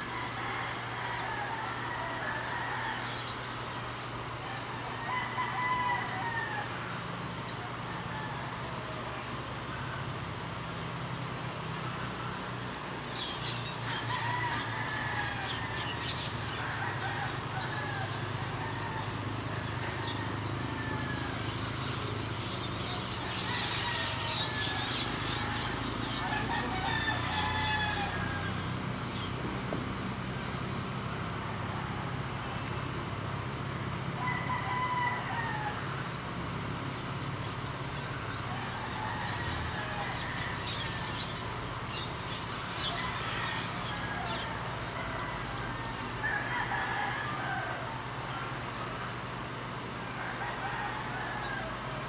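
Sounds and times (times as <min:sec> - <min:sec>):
roosters crowing: 0:00.0 - 0:09.4, 0:11.2 - 0:52.0.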